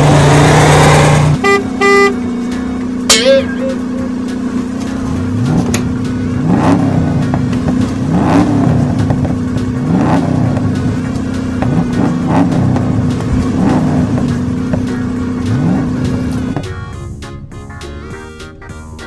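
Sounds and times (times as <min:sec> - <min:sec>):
monster truck engine revving: 0:00.0 - 0:16.6.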